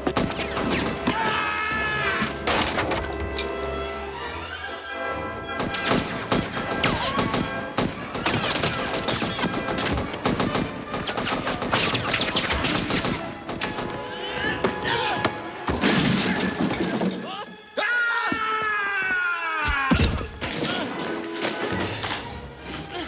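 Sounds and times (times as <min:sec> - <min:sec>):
dramatic film score: 0:00.0 - 0:23.0.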